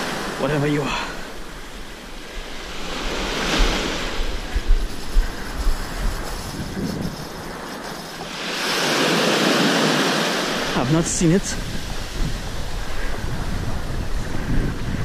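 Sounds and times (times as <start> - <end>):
surf waves washing on sand: 0.0 - 15.0
wind buffeting microphone: 0.0 - 15.0.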